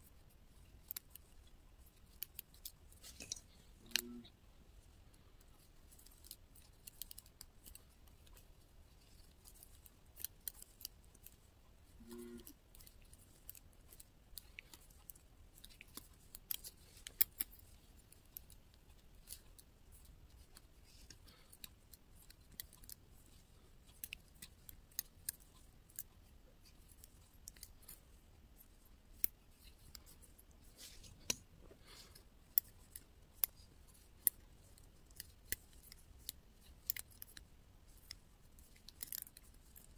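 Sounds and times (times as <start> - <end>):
metal knitting needles clicking: 0.7 - 1.3, 2.0 - 4.2, 5.9 - 11.4, 12.0 - 28.0, 28.6 - 30.2, 32.5 - 39.9.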